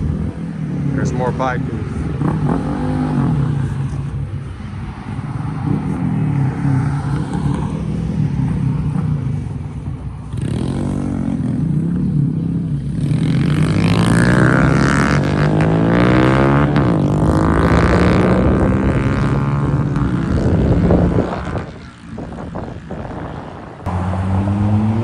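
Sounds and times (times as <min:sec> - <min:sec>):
motorcycles riding past: 0:00.0 - 0:25.0.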